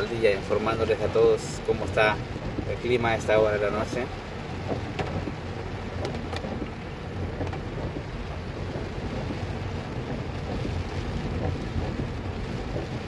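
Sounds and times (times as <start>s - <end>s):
heavy rain hissing: 0.0s - 13.0s
vehicle rumbling on wet streets: 0.0s - 13.0s.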